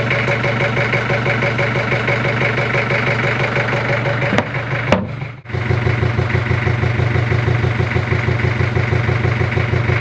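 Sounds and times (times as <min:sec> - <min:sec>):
boat engine idling unevenly: 0:00.0 - 0:10.0.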